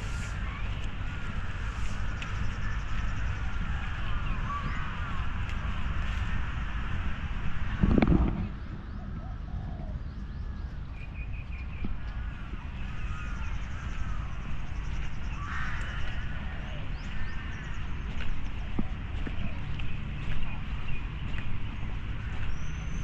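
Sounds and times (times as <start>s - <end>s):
small birds chirping: 0.0s - 6.7s, 8.6s - 23.0s
distant city rumble: 0.0s - 23.0s.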